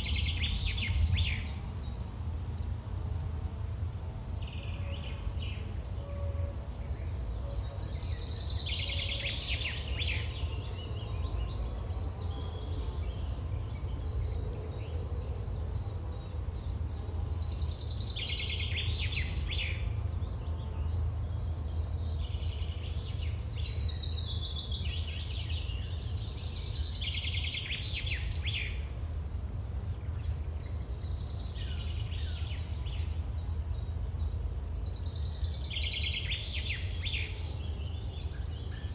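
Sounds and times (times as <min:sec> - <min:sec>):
birds chirping and trilling: 0:06.7 - 0:38.9.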